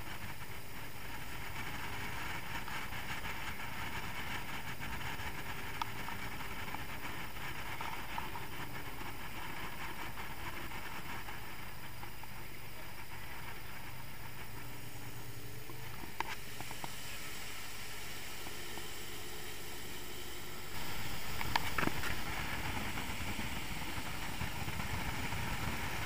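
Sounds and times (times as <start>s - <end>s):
speedboat engine running: 0.1s - 26.0s
water rushing on hull: 0.1s - 26.0s.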